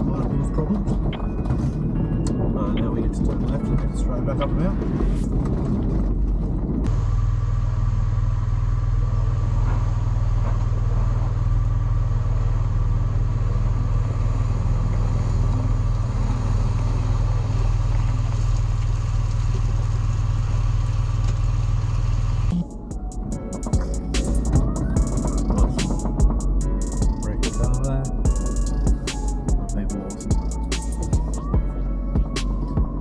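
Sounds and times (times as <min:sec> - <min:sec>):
vehicle engine droning: 0:00.0 - 0:33.0.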